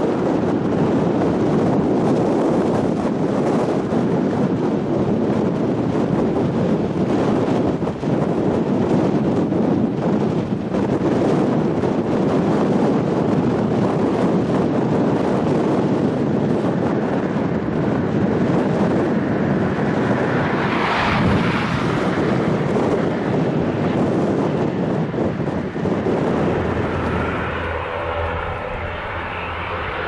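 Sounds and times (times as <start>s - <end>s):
airliner engines droning: 0.0s - 30.0s
wind buffeting microphone: 0.0s - 30.0s.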